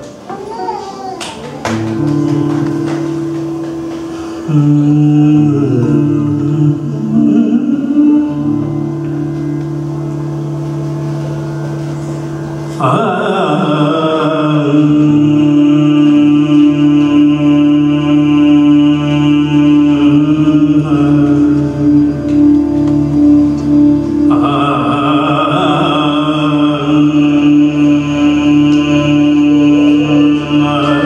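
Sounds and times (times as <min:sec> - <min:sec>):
sliding melodic line: 0:02.0 - 0:31.0
low drone: 0:03.2 - 0:31.0.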